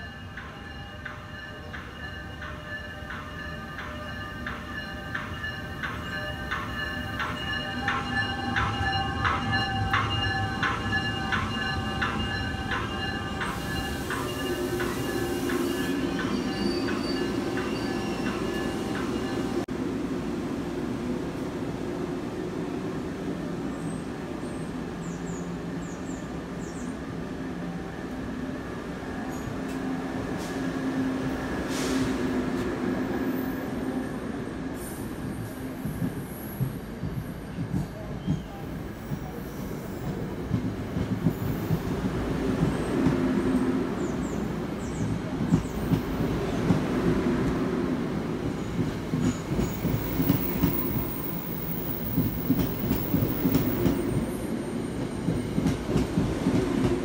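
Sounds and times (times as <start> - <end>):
train rolling past: 0.0 - 57.0.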